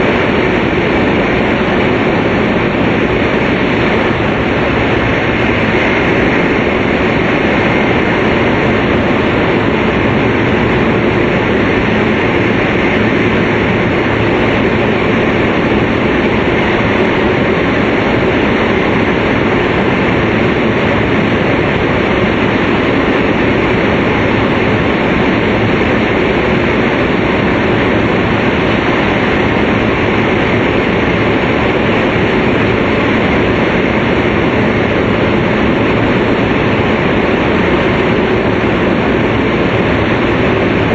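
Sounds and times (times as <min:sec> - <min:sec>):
train cabin rumble at speed: 0:00.0 - 0:40.9.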